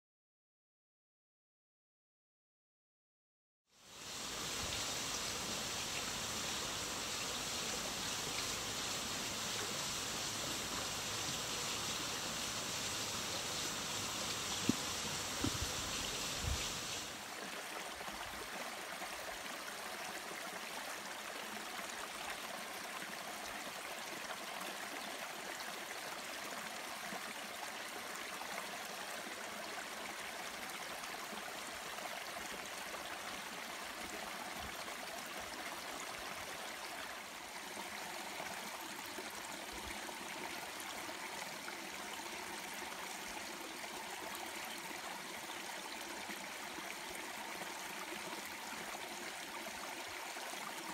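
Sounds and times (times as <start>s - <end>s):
stream trickling over rocks: 3.8s - 50.9s.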